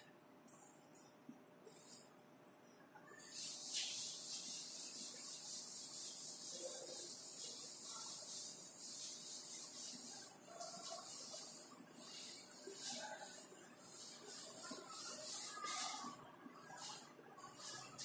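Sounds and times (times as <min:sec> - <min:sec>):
duster scrubbing chalkboard: 0:03.2 - 0:18.0.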